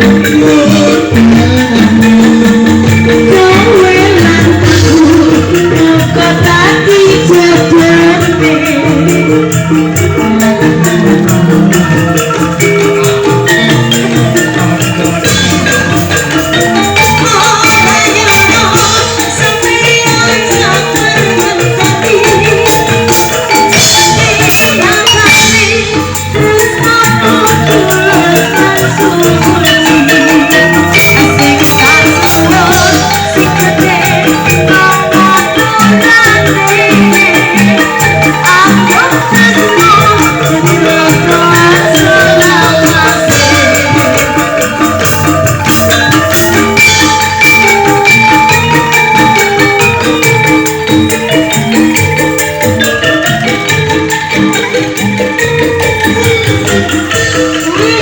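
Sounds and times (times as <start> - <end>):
angklung bamboo rattle melody: 0.0 - 58.0
steady percussion beat: 0.0 - 58.0.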